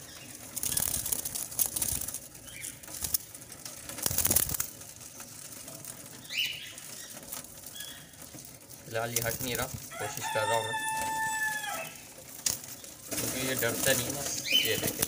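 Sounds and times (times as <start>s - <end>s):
dove wings flapping: 0.0s - 11.4s, 12.0s - 15.0s.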